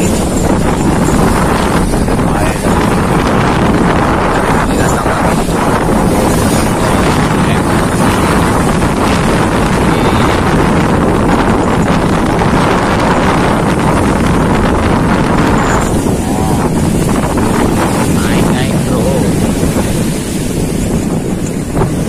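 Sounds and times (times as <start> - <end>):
low rumble of ship and water: 0.0 - 22.0
wind rushing on microphone: 0.0 - 22.0.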